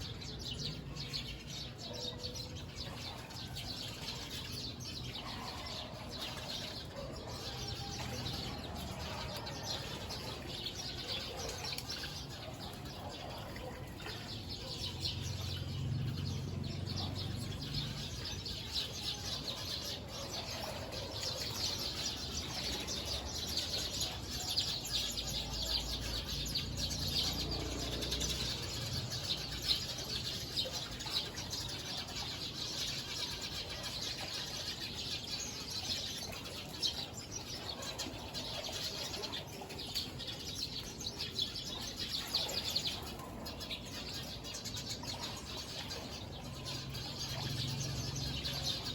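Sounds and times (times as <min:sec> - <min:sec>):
flock of small birds chirping: 0:00.0 - 0:48.9.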